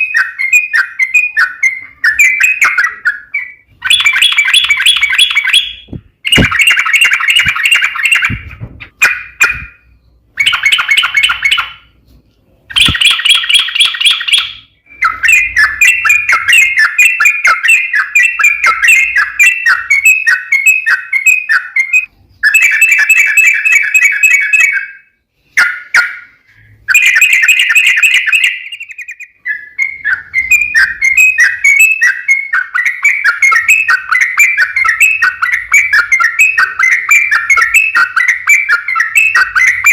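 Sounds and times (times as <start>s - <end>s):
bulbul singing: 0.0s - 12.0s, 12.7s - 39.9s.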